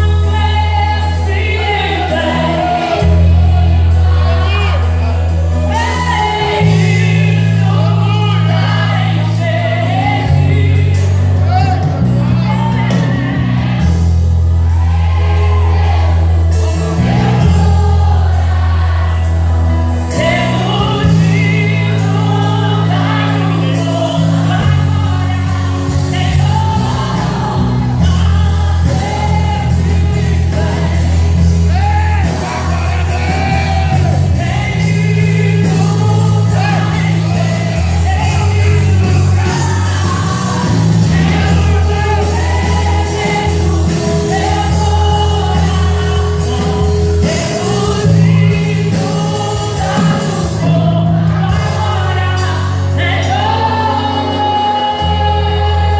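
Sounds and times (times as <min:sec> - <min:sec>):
band accompaniment: 0:00.0 - 0:55.9
person singing worship song: 0:00.0 - 0:55.9
sustained bass notes: 0:00.0 - 0:55.9.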